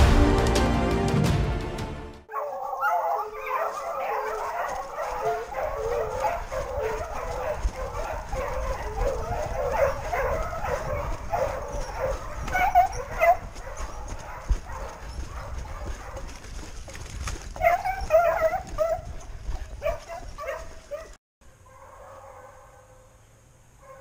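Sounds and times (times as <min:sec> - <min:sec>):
hounds baying: 0:02.3 - 0:23.1.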